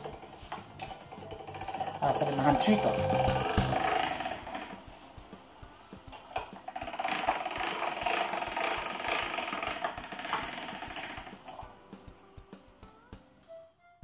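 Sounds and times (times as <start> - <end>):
pasta machine clicking rattle: 0.0 - 11.7.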